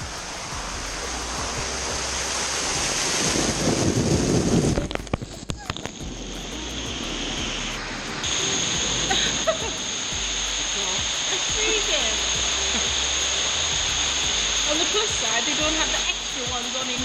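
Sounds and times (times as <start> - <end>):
rushing splashing water: 0.0 - 17.0.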